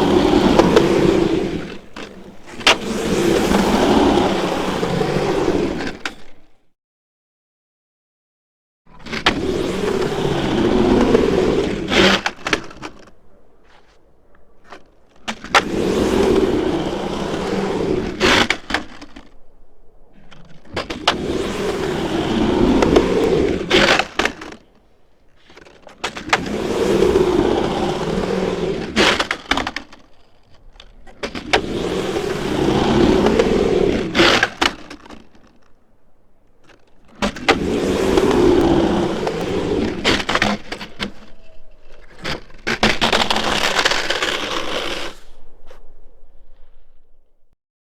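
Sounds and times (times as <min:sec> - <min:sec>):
skateboard clacks: 0:00.0 - 0:06.5, 0:09.0 - 0:19.4, 0:20.2 - 0:35.8, 0:36.4 - 0:45.8
skateboard wheels rolling on pavement: 0:00.0 - 0:06.7, 0:08.9 - 0:47.5.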